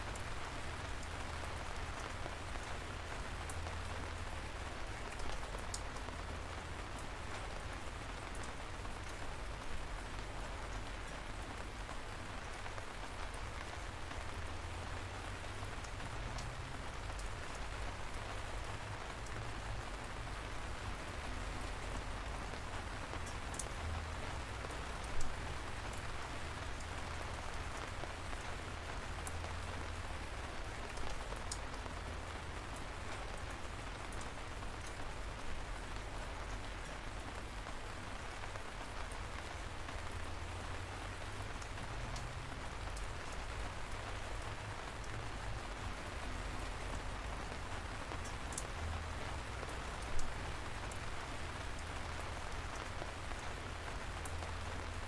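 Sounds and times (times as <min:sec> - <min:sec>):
light rain: 0:00.0 - 0:55.0.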